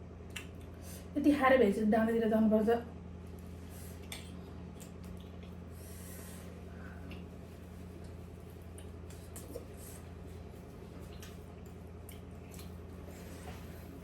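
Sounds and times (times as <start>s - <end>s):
low electrical hum: 0.0s - 14.0s
quiet eating sounds: 0.2s - 1.1s, 3.2s - 14.0s.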